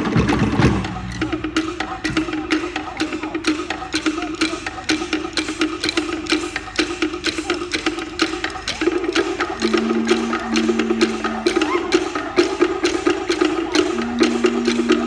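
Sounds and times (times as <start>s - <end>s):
wooden slit drums played fast: 0.0s - 15.0s.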